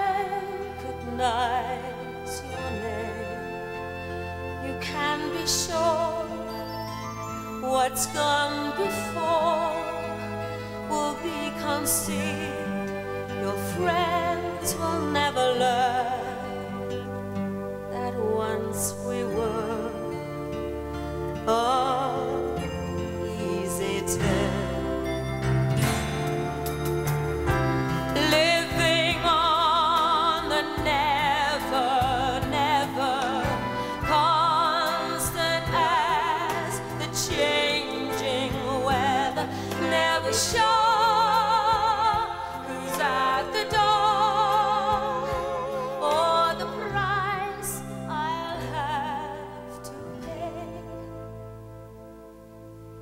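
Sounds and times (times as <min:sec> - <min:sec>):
woman singing: 0:00.0 - 0:17.2, 0:17.8 - 0:25.2, 0:28.0 - 0:51.4
instrumental accompaniment: 0:00.0 - 0:53.0.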